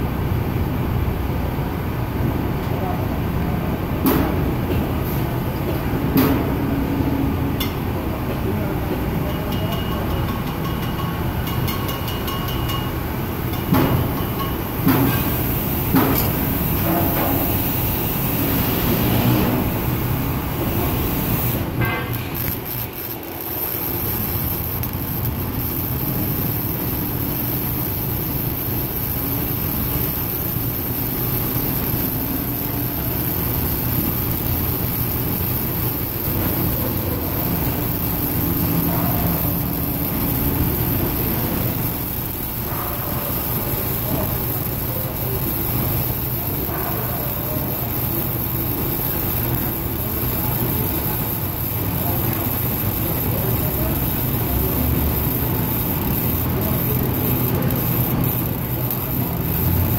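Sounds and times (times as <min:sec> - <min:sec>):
welding arc crackling and sizzling: 0:08.8 - 0:59.9.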